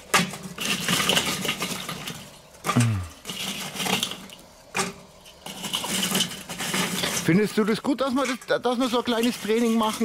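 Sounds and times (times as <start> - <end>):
charcoal clinking on metal: 0.0 - 10.0
gritty rustling of charcoal: 0.0 - 10.0.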